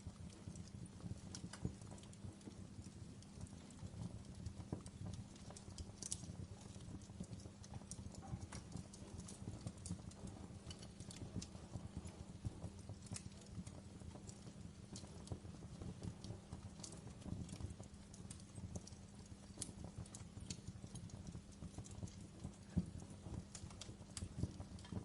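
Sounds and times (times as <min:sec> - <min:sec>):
logs crackling in fireplace: 0:00.0 - 0:25.0
low rumble of flames: 0:00.0 - 0:25.0.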